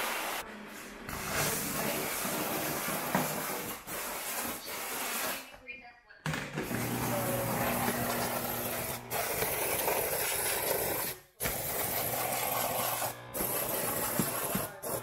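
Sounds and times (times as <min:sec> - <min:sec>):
steam cleaner hissing: 0:00.0 - 0:00.4, 0:01.1 - 0:05.5, 0:06.6 - 0:15.0.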